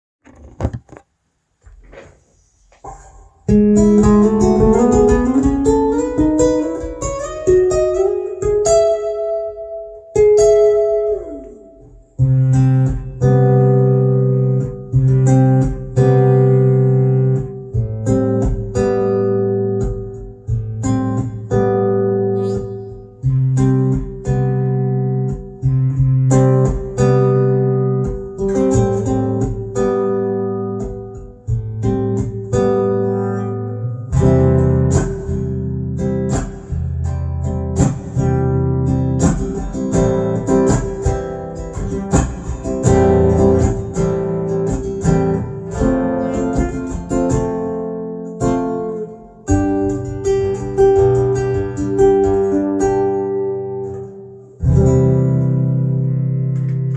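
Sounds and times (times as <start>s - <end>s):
nylon-string guitar chords: 2.8s - 56.9s.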